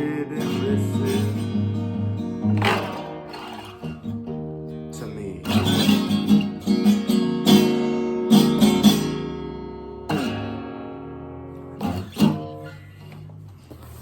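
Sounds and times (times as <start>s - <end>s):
acoustic guitar slow blues: 0.0s - 14.0s.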